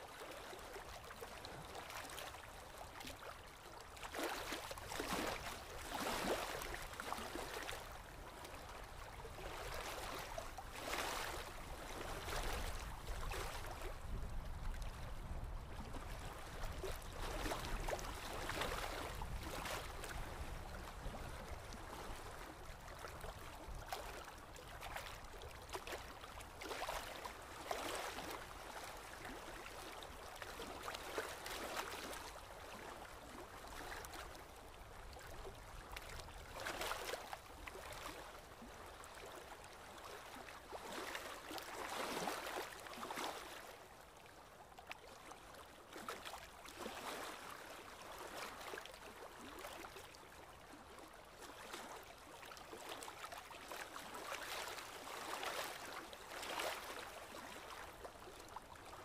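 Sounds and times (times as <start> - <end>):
wind: 0.0 - 59.0
water lapping: 0.1 - 59.0.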